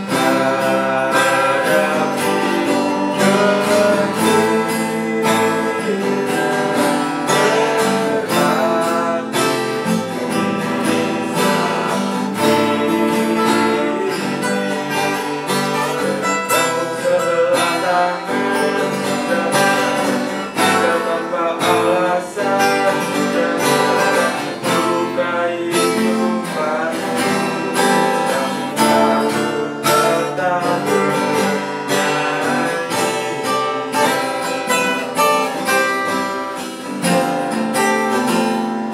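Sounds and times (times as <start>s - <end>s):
acoustic guitars strumming chords: 0.0s - 38.9s.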